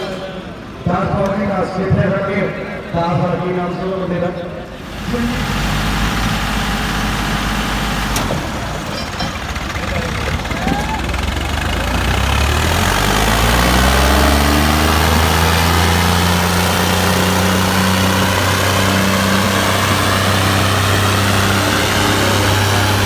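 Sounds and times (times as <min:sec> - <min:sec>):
tractor diesel engines droning: 0:00.0 - 0:23.0.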